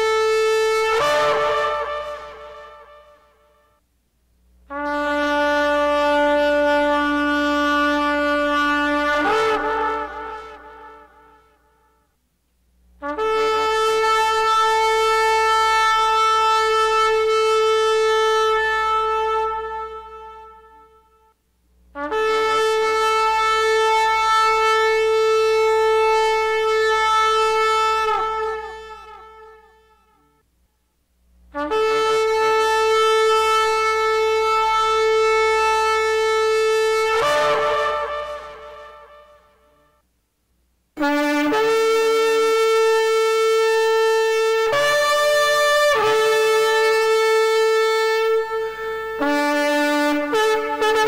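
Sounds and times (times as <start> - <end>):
shofar blast: 0.0 - 3.8, 4.7 - 12.1, 13.0 - 21.4, 22.0 - 30.4, 31.5 - 40.0, 41.0 - 51.0.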